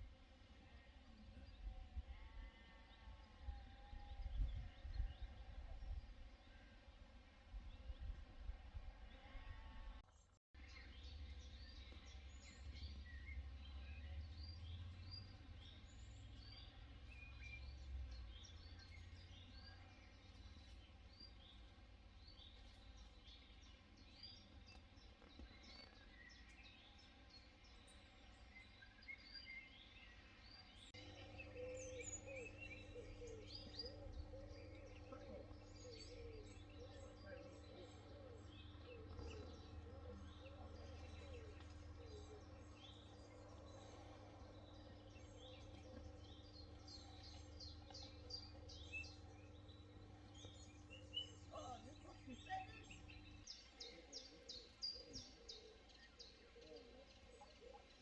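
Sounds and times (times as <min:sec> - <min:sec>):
small birds chirping: 0:00.0 - 0:58.0
low steady hum: 0:10.6 - 0:58.0.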